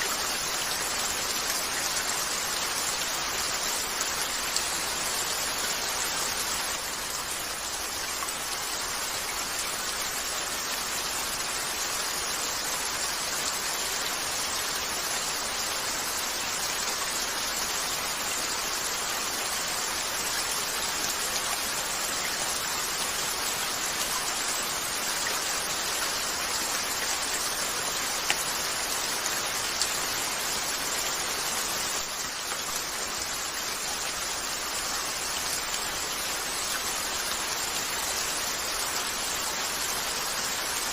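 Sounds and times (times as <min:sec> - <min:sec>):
rain on a window: 0:00.0 - 0:40.9.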